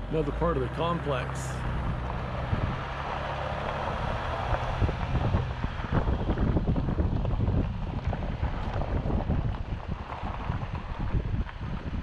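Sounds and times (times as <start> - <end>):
vehicle engine humming: 0.0 - 12.0
wind buffeting microphone: 1.6 - 12.0.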